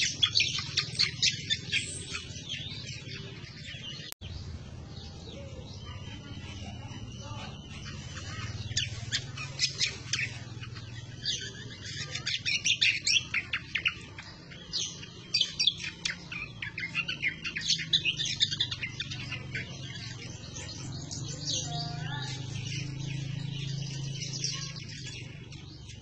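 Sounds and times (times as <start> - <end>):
bird chirps and trills: 0.0 - 26.0.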